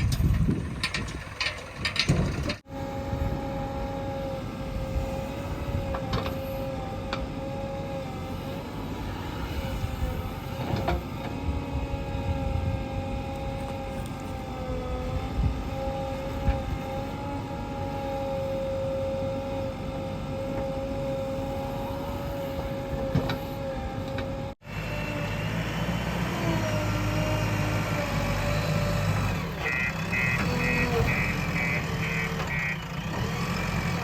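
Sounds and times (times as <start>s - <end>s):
diesel engine running with whine: 0.0s - 34.0s.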